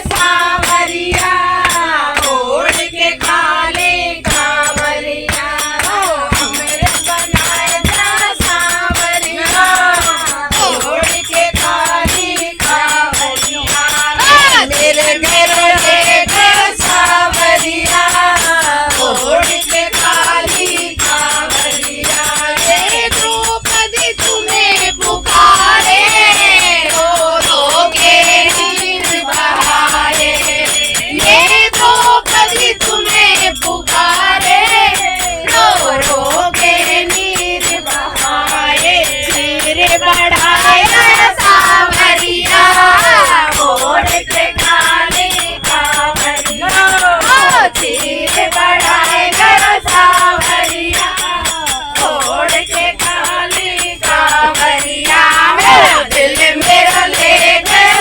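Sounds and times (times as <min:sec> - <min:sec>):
shaken rattle percussion: 0:00.0 - 0:58.0
women singing together: 0:00.0 - 0:58.0.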